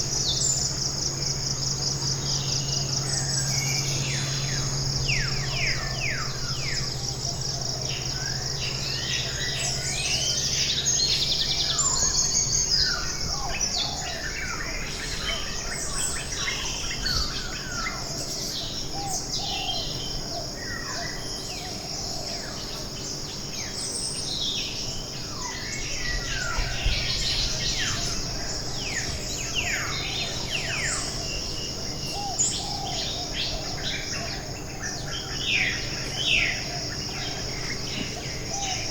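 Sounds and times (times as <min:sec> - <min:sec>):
birds chirping and whistling: 0:00.0 - 0:38.9
high-pitched insect drone: 0:00.0 - 0:38.9.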